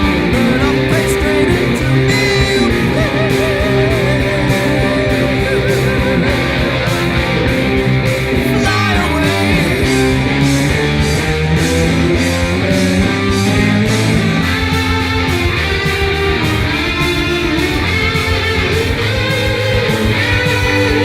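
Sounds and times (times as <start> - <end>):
hard rock music: 0.0 - 21.0.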